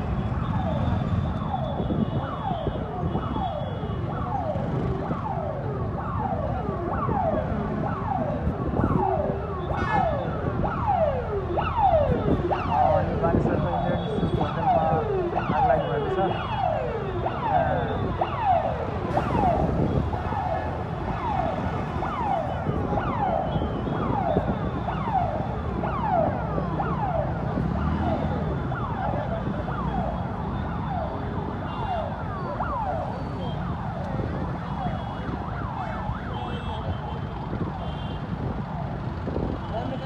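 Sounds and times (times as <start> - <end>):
emergency vehicle siren: 0.0 - 40.0
street noise rumble: 0.0 - 40.0.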